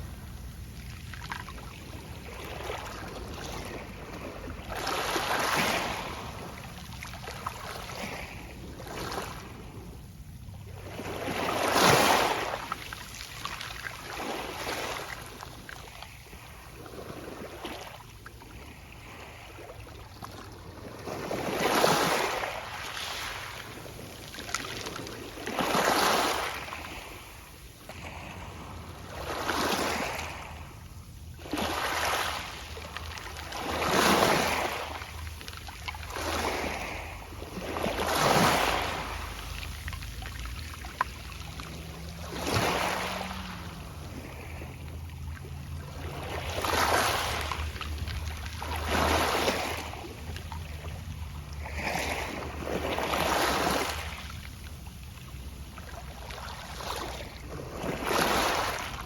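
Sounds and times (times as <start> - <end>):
small waves breaking: 0.0 - 59.0.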